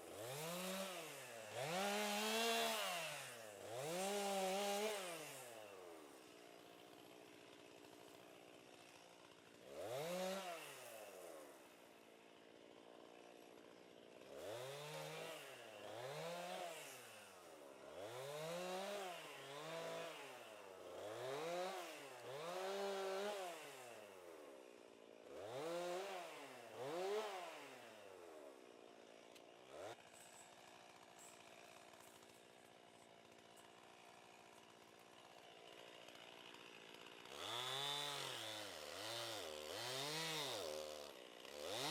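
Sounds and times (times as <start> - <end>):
chainsaw idling and revving: 0.0 - 41.9.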